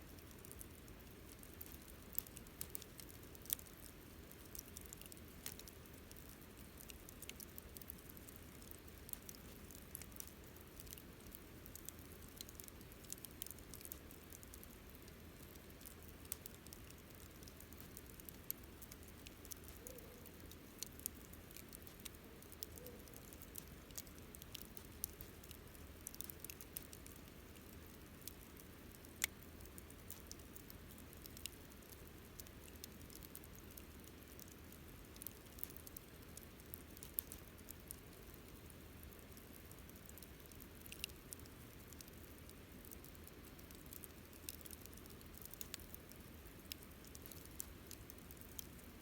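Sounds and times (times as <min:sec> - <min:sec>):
campfire crackling and popping: 0:00.1 - 0:49.0.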